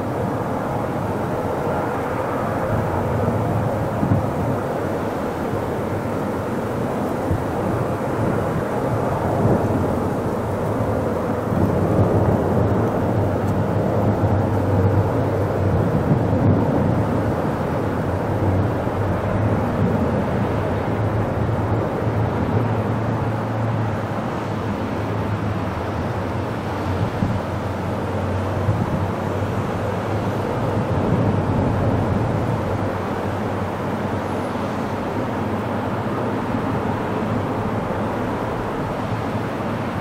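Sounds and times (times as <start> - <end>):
train engine rumbling: 0.0 - 40.0.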